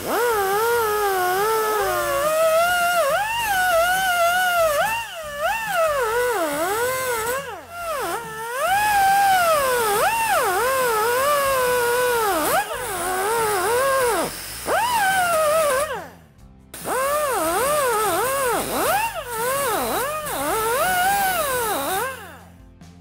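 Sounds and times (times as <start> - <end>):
cutoff wheel grinding steel: 0.0 - 22.6.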